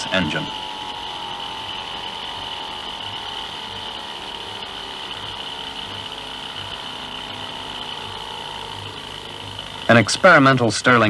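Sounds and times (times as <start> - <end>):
small engine running with pulse: 0.0 - 11.0.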